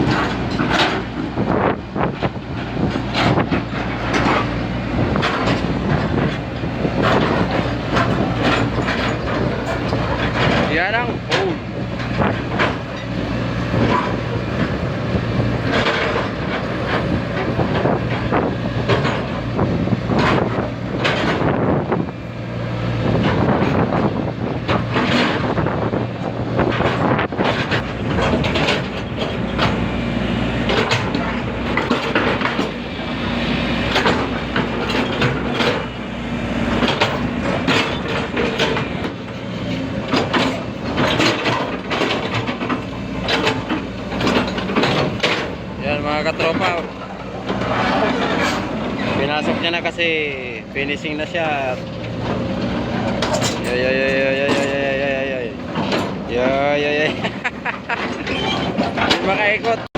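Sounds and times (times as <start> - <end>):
excavator diesel engine humming: 0.0 - 59.9
metal clanks and knocks: 0.0 - 59.9.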